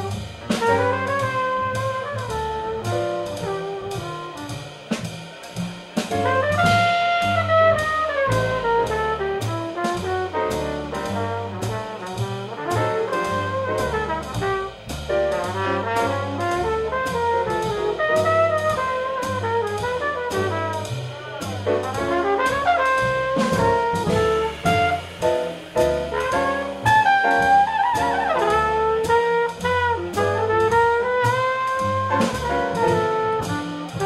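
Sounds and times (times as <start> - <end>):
trumpet solo: 0.0 - 4.6, 6.2 - 34.0
drum kit with cymbal strokes: 0.0 - 34.0
piano: 0.0 - 34.0
walking upright bass: 0.0 - 34.0.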